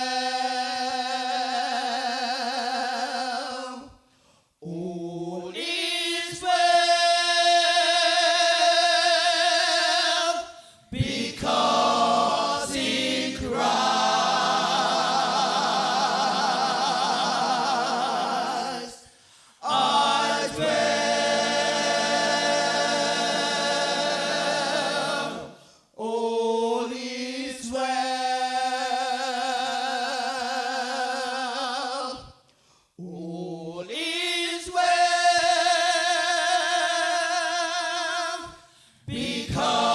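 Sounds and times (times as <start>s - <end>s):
gospel choir singing in harmony: 0.0s - 32.4s, 33.0s - 39.9s.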